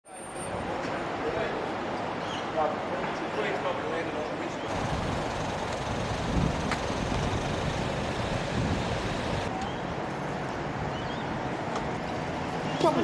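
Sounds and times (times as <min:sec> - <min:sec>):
road traffic hum: 0:00.1 - 0:13.0.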